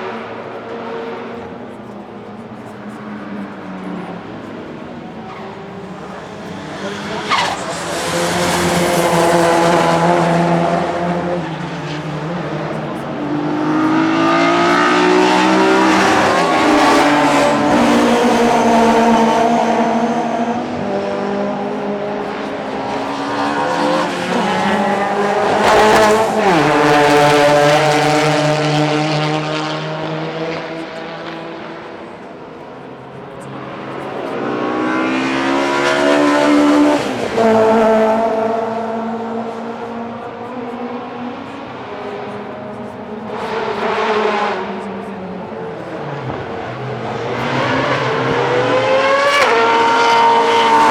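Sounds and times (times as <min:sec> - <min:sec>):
race car engines passing: 0:00.0 - 0:50.9.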